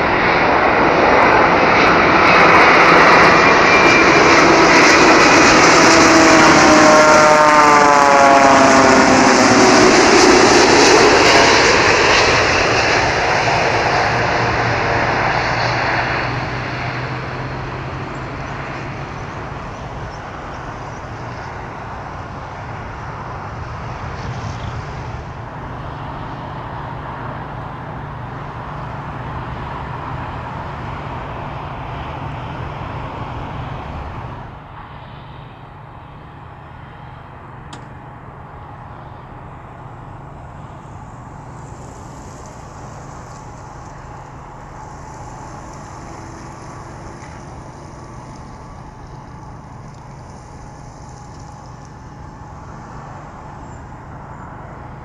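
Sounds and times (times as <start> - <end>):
jet engines whine passing: 0.0 - 55.0.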